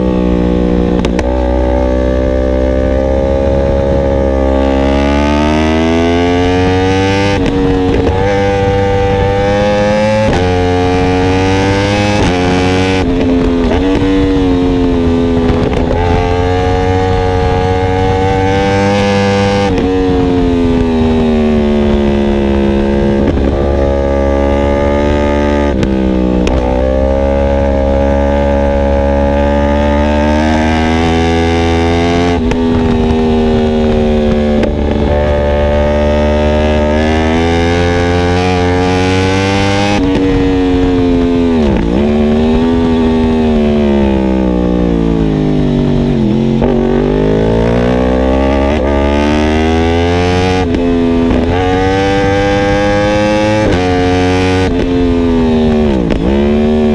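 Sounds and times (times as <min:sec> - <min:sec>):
sport bike engine revving: 0:00.0 - 0:56.9.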